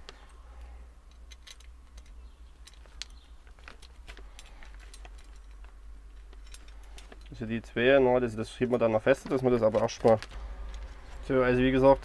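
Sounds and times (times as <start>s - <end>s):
small metal parts clinking: 0.0s - 12.0s.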